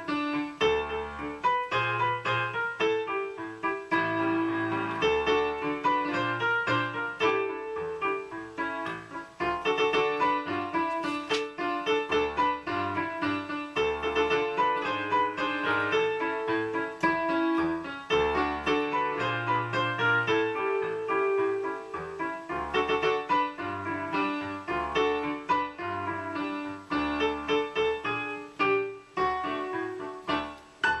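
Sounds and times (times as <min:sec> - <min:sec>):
piano-like chords: 0:00.0 - 0:31.0.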